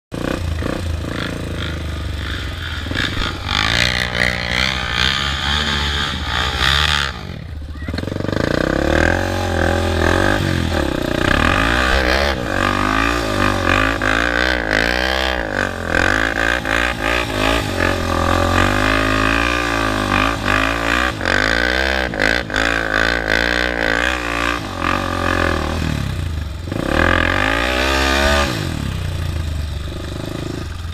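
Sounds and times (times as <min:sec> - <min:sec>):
quad engines revving: 0:00.1 - 0:30.9.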